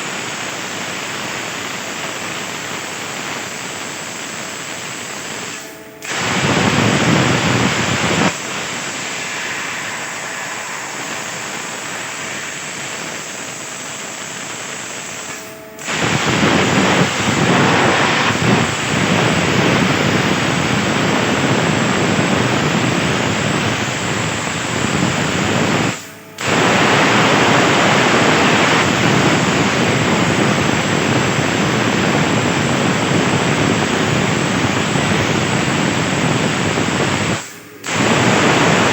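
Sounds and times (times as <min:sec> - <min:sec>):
plasma cutter arc hissing: 0:00.2 - 0:38.9.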